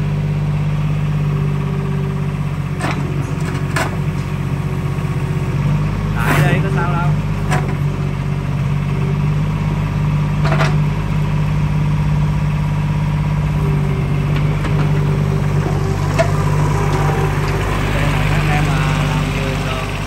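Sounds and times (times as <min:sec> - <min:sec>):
mini excavator diesel running: 0:00.0 - 0:20.0.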